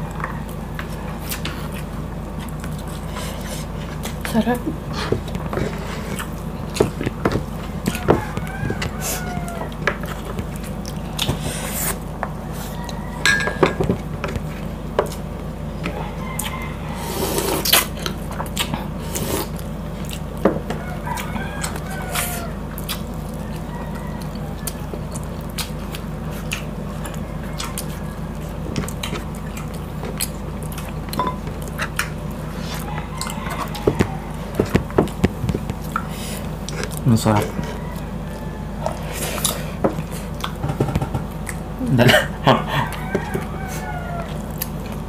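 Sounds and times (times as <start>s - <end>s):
steady low hum: 0.0s - 45.0s
chewing and lip smacking: 0.1s - 4.3s, 5.2s - 13.2s, 17.4s - 40.6s, 41.3s - 41.8s, 42.6s - 45.0s.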